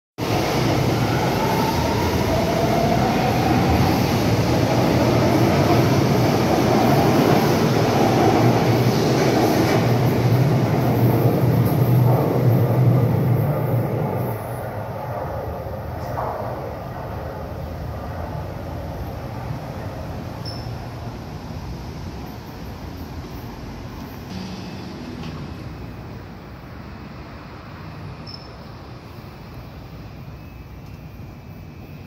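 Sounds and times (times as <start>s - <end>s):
subway train rumbling: 0.2s - 32.0s.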